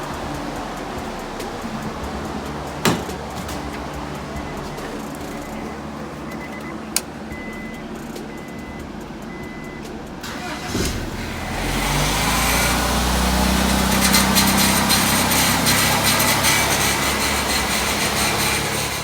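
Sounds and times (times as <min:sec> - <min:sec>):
car engine cranking and starting: 0:00.0 - 0:19.0.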